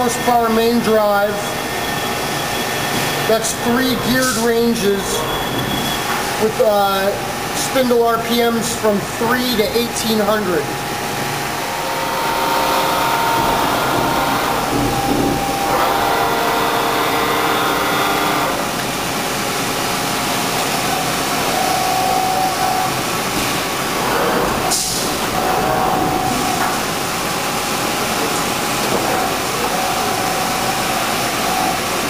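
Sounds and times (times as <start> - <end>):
lathe humming and whining: 0.0 - 32.0.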